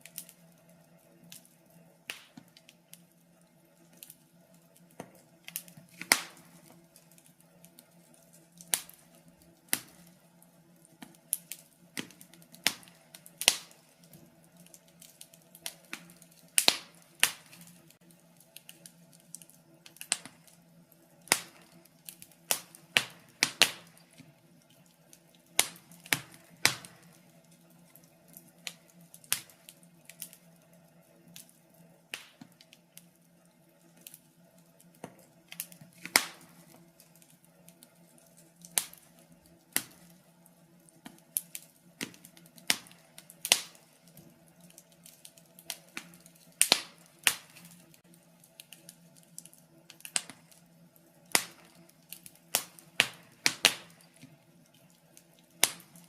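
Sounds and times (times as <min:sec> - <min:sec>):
faint steady low hum: 0:00.0 - 0:56.0
wood fire crackling: 0:00.0 - 0:56.0.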